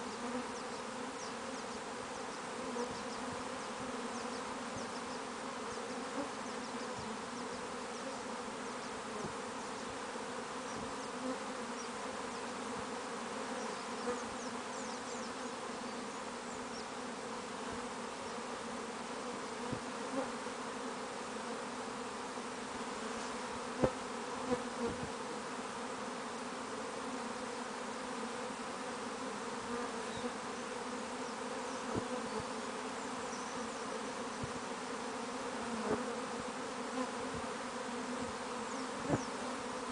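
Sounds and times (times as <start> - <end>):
bee swarm buzzing: 0.0 - 39.9.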